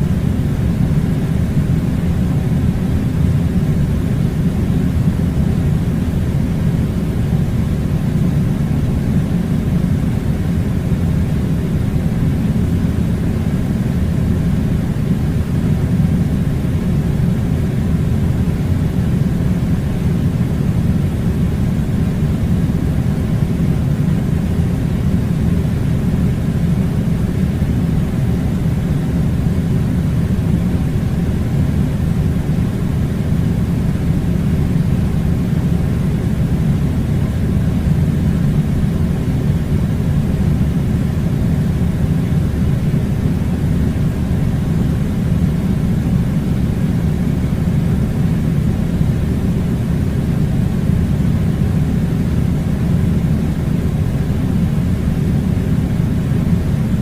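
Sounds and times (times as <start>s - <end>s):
air conditioner blowing air: 0.0s - 57.0s.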